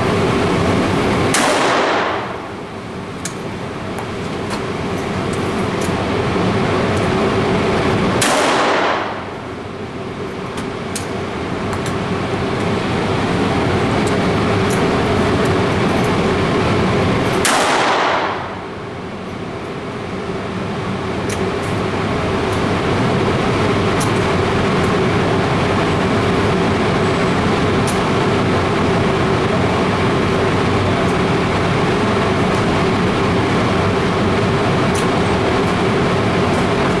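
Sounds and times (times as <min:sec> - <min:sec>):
loud steady rushing noise: 0:00.0 - 0:37.0
low hum: 0:00.0 - 0:37.0.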